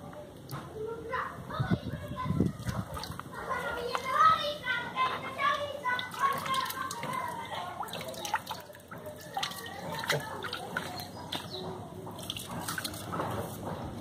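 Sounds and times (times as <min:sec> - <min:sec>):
water dripping and splashing: 0:02.4 - 0:13.8.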